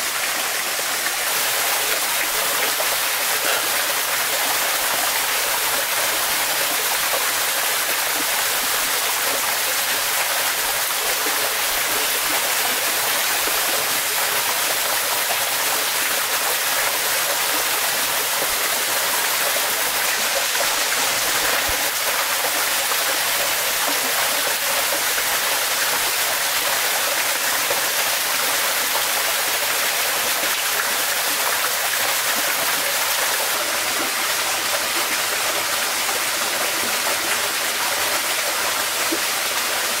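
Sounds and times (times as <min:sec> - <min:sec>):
stream flowing over rocks: 0:00.0 - 0:40.0.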